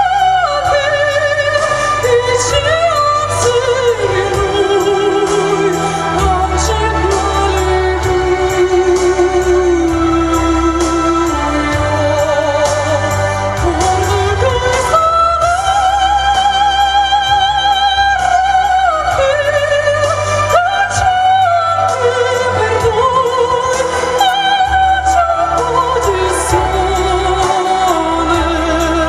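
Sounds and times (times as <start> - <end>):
musical accompaniment: 0.0 - 29.0
woman singing into a microphone: 0.0 - 29.0.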